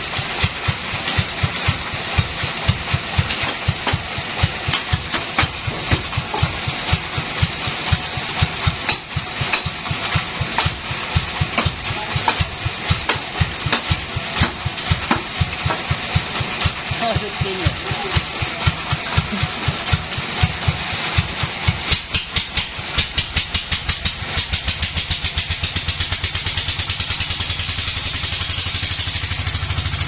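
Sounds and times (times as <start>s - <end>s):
engine idling with low beat: 0.0s - 30.0s.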